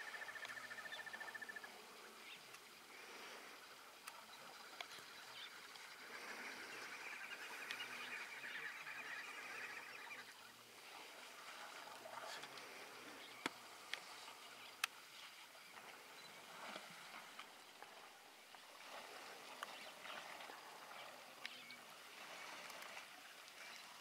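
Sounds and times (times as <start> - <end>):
faint bush ambience: 0.0 - 24.0.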